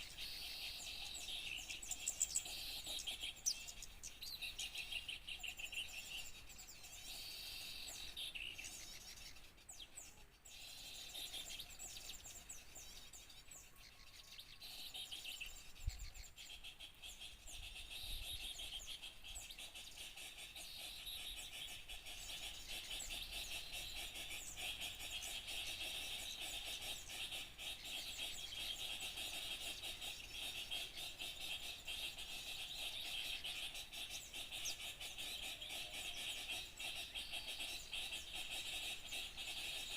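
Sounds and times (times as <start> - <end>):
many small birds chirping: 0.0 - 39.9.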